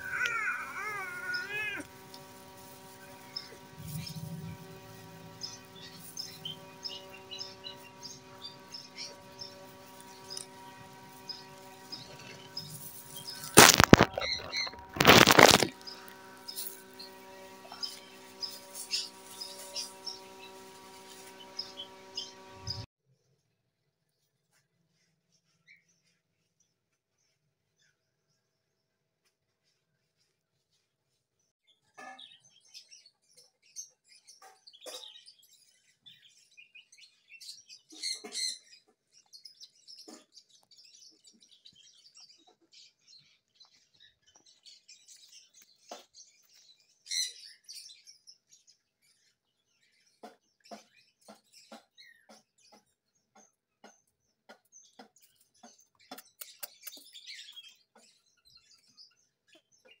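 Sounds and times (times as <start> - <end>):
small birds chirping: 0.0 - 22.9, 32.8 - 60.0.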